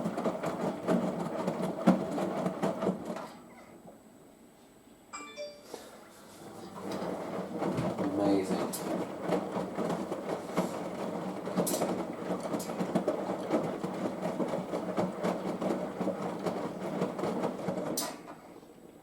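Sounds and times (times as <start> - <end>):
washing machine drum tumbling: 0.0 - 3.8, 6.5 - 18.6.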